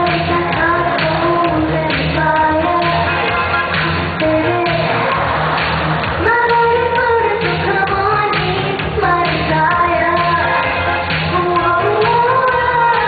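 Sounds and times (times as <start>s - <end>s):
upbeat pop song with female singer: 0.0s - 13.0s.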